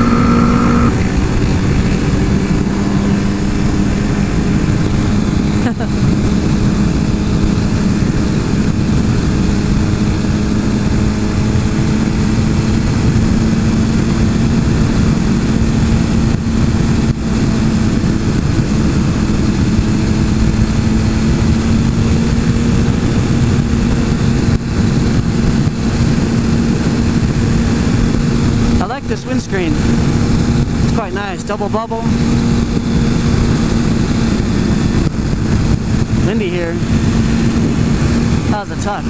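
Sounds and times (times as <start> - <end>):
loud wind rush: 0.0 - 39.0
motorcycle engine cruising: 0.0 - 39.0.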